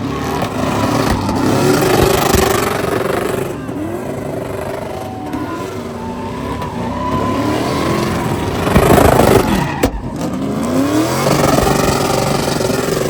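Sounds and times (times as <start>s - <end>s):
vehicle engine revving hard: 0.0s - 13.0s.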